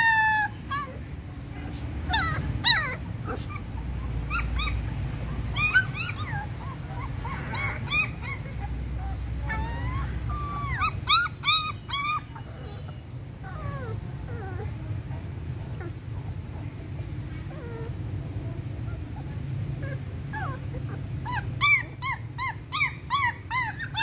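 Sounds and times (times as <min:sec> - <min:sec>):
puppies whimpering and yelping: 0:00.0 - 0:24.0.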